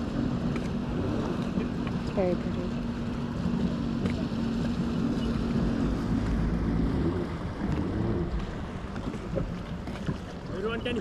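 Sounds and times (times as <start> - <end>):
watercraft engine humming: 0.0 - 11.0
wind rumbling on microphone: 0.0 - 11.0.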